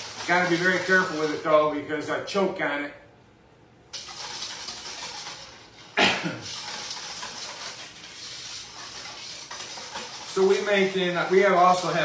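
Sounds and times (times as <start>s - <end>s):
liquid swishing in a bowl: 0.0s - 1.8s, 4.0s - 12.0s.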